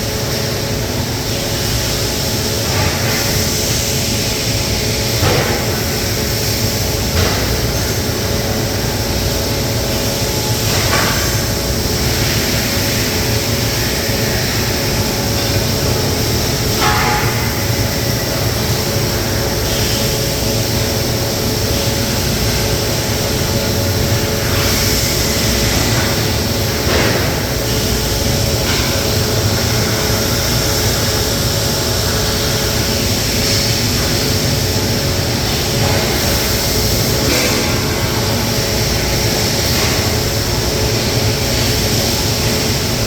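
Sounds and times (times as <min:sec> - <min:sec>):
machinery hum and hiss: 0:00.0 - 0:43.0.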